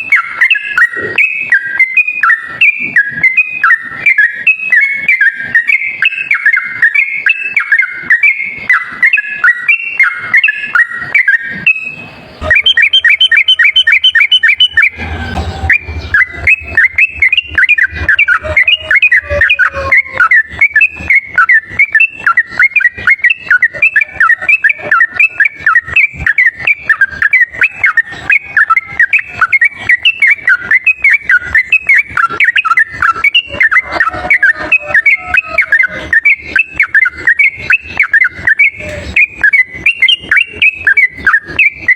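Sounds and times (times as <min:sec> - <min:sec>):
bird whistled chatter: 0:00.0 - 0:41.9.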